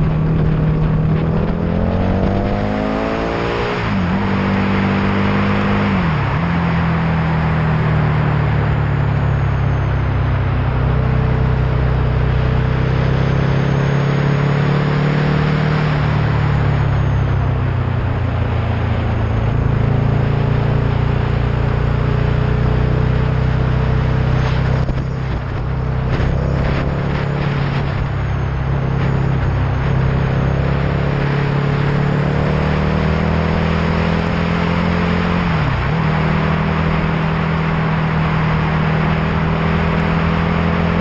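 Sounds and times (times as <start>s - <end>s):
road and wind noise: 0.0s - 41.0s
vehicle engine cruising: 0.0s - 41.0s.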